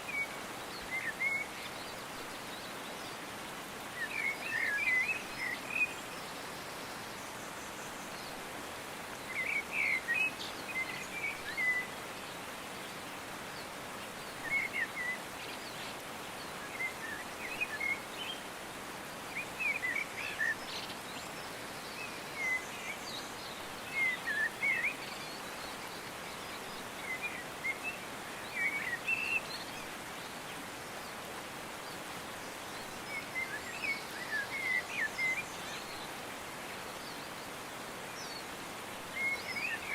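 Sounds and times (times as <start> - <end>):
outdoor hiss: 0.0 - 39.9
songbird chirping: 0.0 - 39.9.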